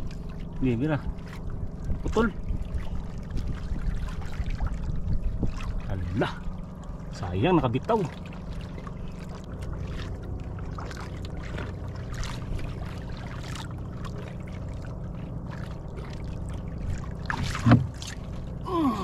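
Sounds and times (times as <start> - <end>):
small boat engine humming: 0.0 - 19.0.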